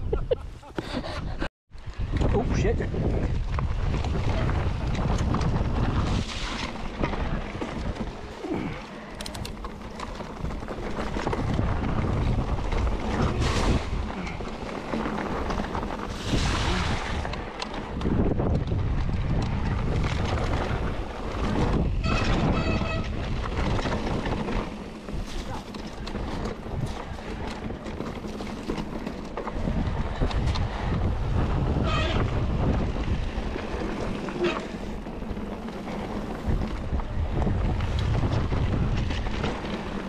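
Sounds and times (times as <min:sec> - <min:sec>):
wind buffeting microphone: 0:00.0 - 0:40.0
bike tyres rumbling on trail: 0:00.2 - 0:40.0.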